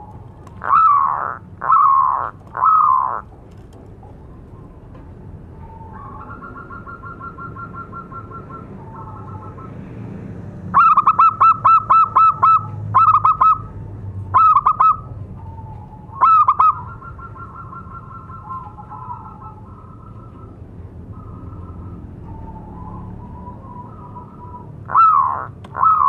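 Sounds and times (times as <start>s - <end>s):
dove cooing: 0.0s - 3.3s, 5.6s - 9.8s, 10.7s - 13.7s, 14.3s - 26.0s.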